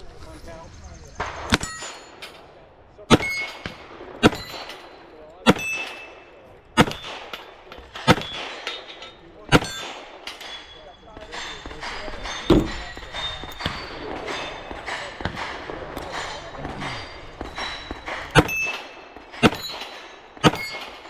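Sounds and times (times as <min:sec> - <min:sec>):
steel plate clanging: 0:01.5 - 0:21.0.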